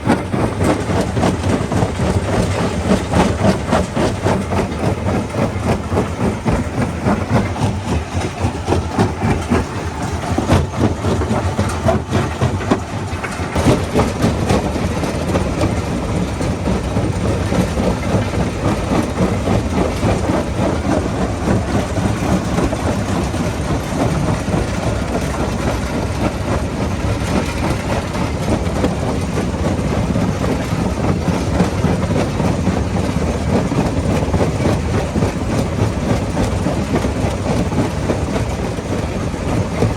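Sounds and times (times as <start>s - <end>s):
heavy machine running: 0.0s - 39.9s.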